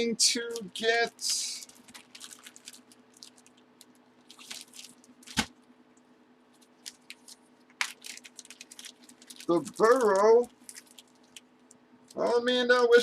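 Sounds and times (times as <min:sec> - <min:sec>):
trading cards and packaging rustling: 0:00.0 - 0:05.5, 0:06.6 - 0:12.4.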